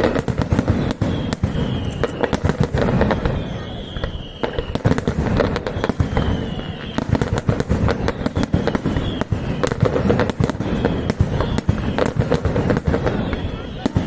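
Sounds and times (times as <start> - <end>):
fireworks bangs and crackling: 0.0 - 14.0
low rumble of explosions: 0.0 - 14.0.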